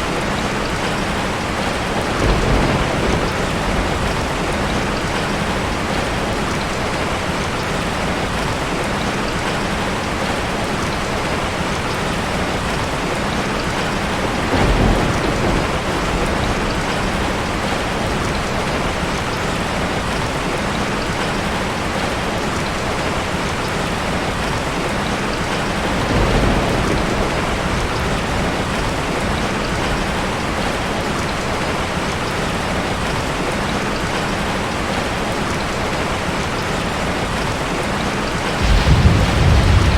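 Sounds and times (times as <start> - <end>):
rain falling on forest: 0.0 - 39.9.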